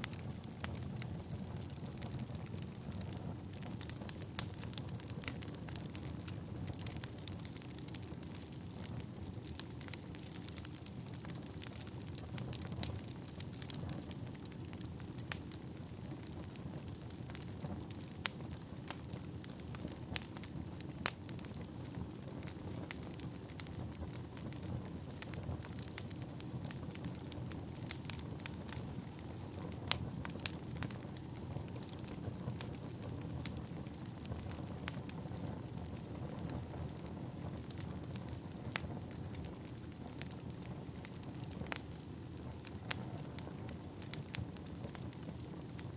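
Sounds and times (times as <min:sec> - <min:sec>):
firewood crackling and popping: 0:00.0 - 0:45.9.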